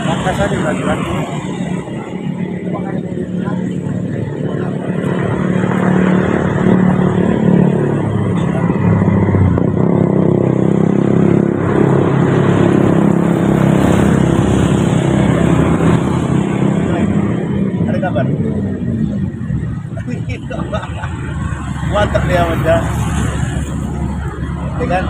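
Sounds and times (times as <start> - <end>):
diesel truck passing: 0.0 - 25.0.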